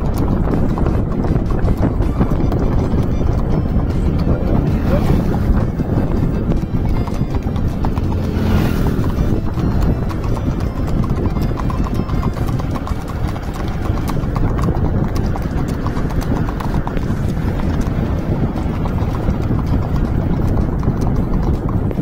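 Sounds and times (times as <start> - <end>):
hooves clip-clopping on asphalt: 0.0 - 22.0
vehicle low rumble: 0.0 - 22.0.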